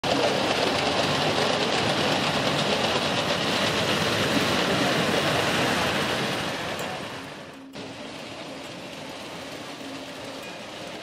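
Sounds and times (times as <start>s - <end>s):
model train wheels rattling: 0.0s - 11.0s.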